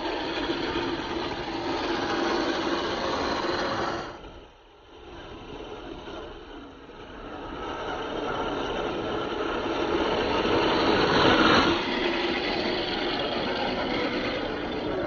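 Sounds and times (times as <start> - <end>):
toy car electric motor whirring: 0.0 - 15.0.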